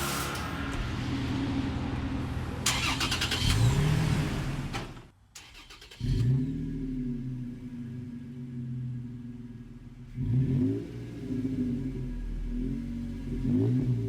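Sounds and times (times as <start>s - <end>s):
truck engine idling and revving: 0.0s - 14.0s.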